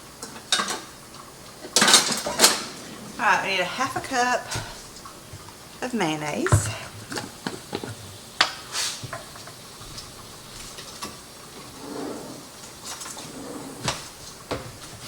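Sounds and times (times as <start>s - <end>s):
kitchen utensils clicking and scraping: 1.6s - 5.2s, 6.5s - 15.0s.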